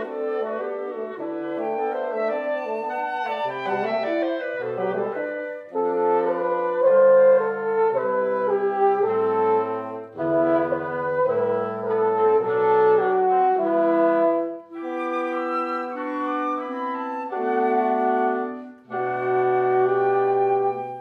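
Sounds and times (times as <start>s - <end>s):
french horn: 0.0s - 21.0s
woodwind quintet playing chords: 0.0s - 21.0s.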